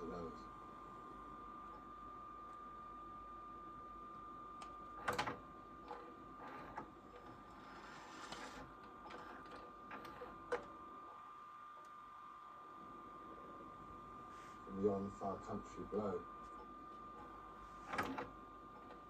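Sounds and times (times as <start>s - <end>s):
steady high-pitched whine: 0.0s - 19.0s.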